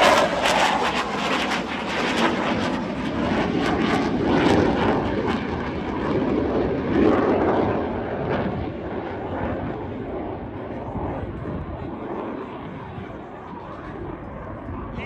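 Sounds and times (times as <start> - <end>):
aircraft engine rumble: 0.0 - 15.0.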